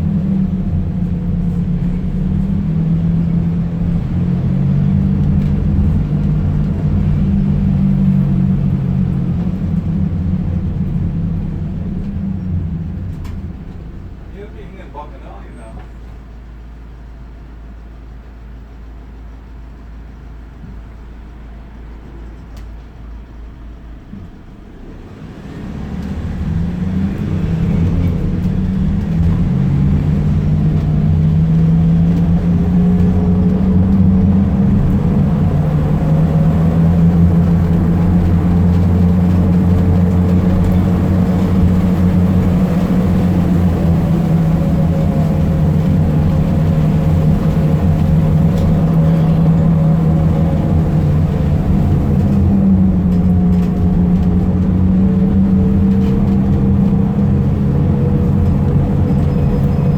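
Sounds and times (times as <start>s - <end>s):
minibus engine accelerating: 0.0s - 59.9s.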